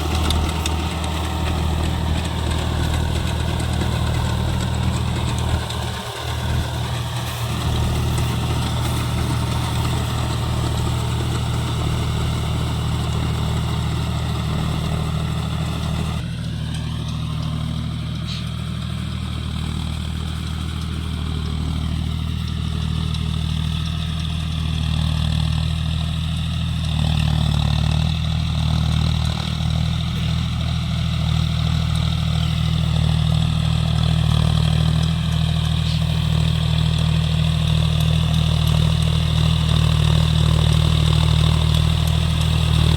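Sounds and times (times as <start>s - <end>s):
tractor diesel engine under load: 0.0s - 42.9s.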